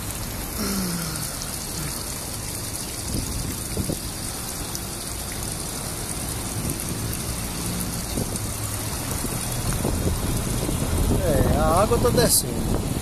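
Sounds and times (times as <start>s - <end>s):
hiss of running water: 0.0s - 13.0s
road traffic rumbling: 0.0s - 13.0s.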